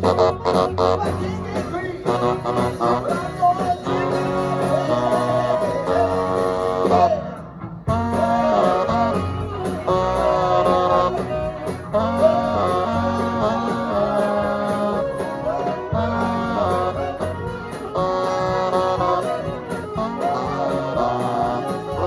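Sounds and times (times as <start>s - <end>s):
guitar: 0.0s - 22.0s
swing band playing: 0.0s - 22.0s.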